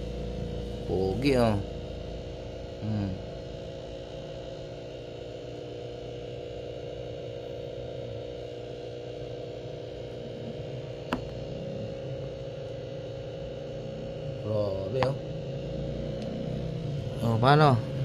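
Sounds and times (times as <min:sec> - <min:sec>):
steady hum of even tones: 0:00.0 - 0:18.0.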